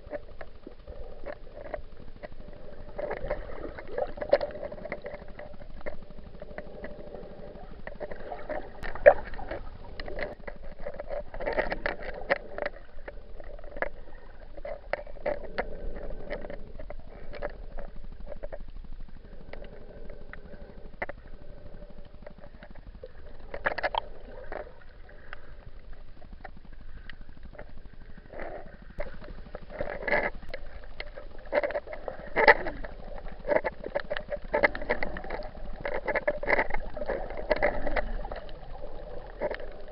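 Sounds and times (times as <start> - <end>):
muffled sea water sloshing: 0.0 - 39.9.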